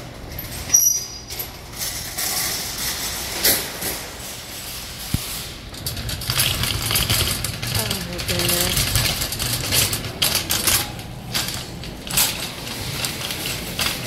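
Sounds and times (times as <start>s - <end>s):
metal shopping carts clanking: 0.0s - 14.0s
shopping cart rattling on floor: 0.0s - 14.0s.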